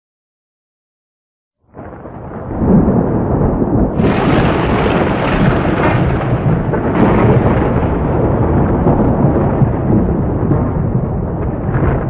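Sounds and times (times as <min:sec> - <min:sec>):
rolling thunder: 0:01.7 - 0:12.0.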